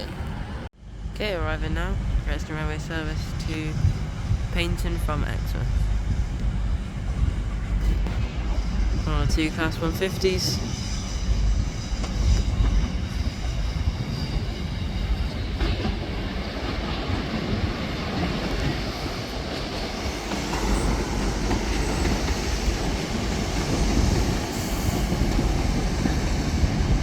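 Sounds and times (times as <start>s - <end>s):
diesel train rumbling on rails: 0.0s - 27.0s.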